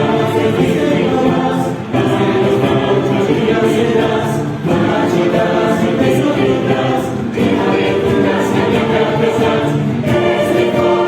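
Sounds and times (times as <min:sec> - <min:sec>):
choir singing unaccompanied: 0:00.0 - 0:11.0.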